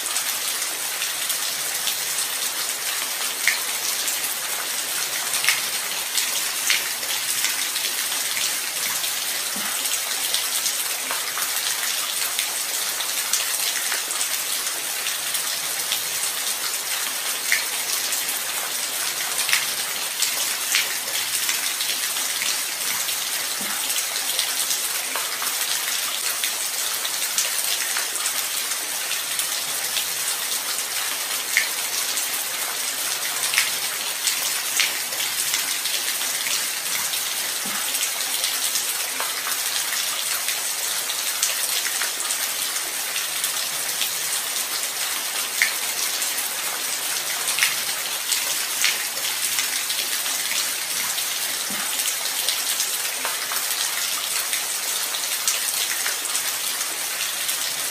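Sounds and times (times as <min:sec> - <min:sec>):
light rain: 0:00.0 - 0:57.9.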